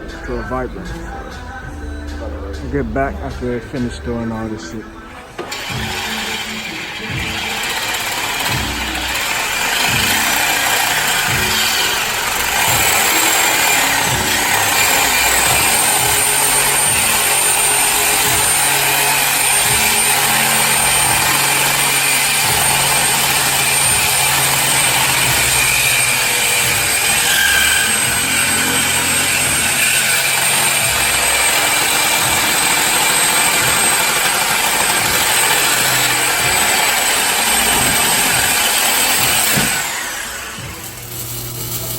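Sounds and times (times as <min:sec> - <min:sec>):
power tool whining: 0:02.5 - 0:41.9.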